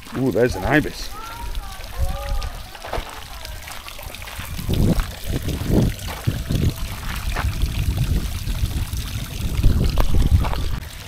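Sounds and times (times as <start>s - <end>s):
fountain water splashing: 0.0s - 11.0s
low uneven rumble: 1.0s - 11.0s.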